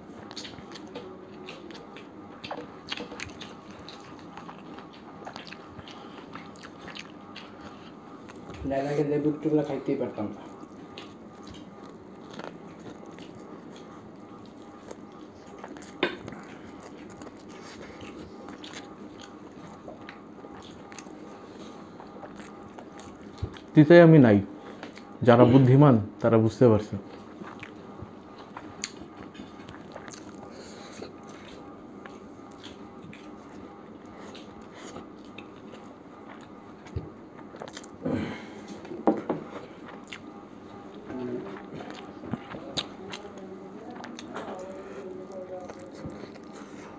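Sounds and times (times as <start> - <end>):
people chewing food: 0.0 - 46.9.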